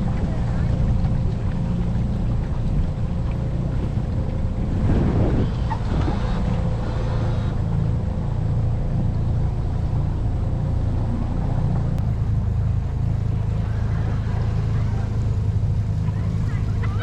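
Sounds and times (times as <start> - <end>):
boat motor droning: 0.0 - 17.0.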